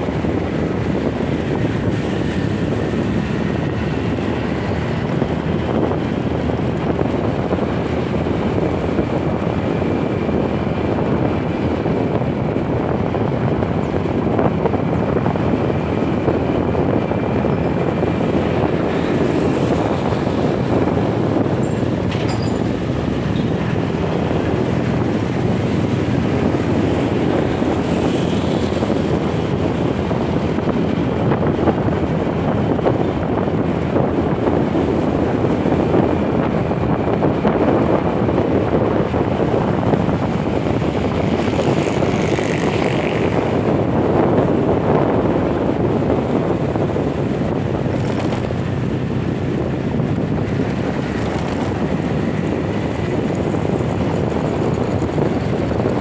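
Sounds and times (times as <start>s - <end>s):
motorcycle engine running: 0.0s - 56.0s
road noise: 0.0s - 56.0s
wind on microphone: 0.0s - 56.0s.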